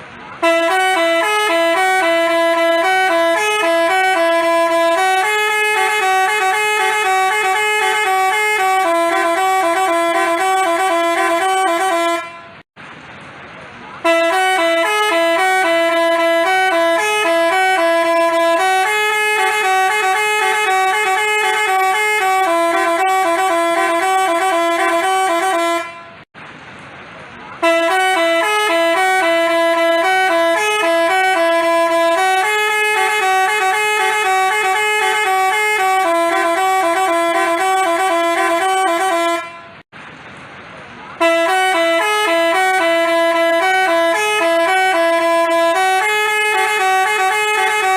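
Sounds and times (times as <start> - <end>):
multi-tone bus horn tune: 0.0 - 12.7, 14.0 - 26.3, 27.6 - 39.9, 41.2 - 47.9.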